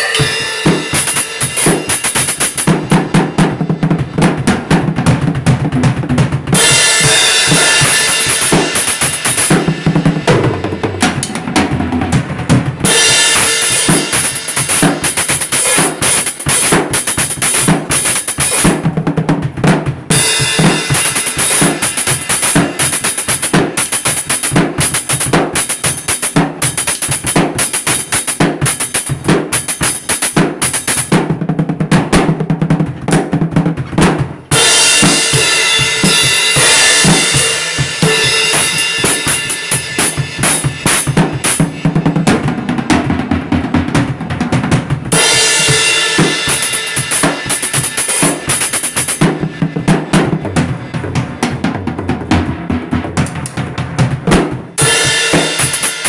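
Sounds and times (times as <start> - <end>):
drum-driven music: 0.0 - 56.0.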